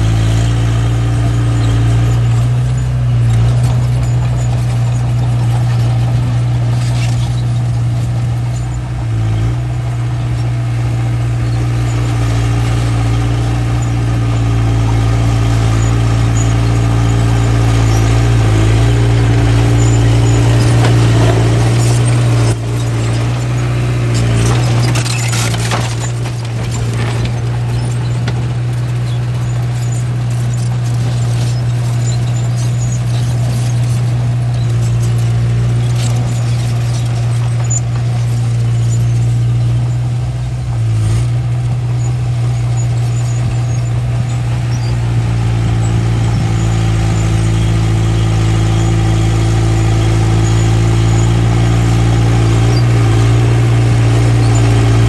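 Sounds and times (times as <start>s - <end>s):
bulldozer diesel engine running: 0.0s - 55.0s
high-pitched squealing: 0.0s - 55.0s.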